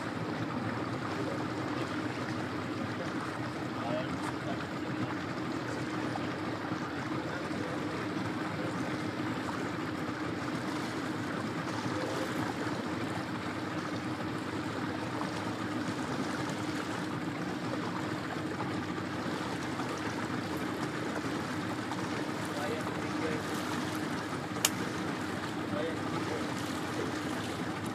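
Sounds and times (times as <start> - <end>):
boat motor humming: 0.0 - 27.9
water splashing along hull: 0.0 - 27.9.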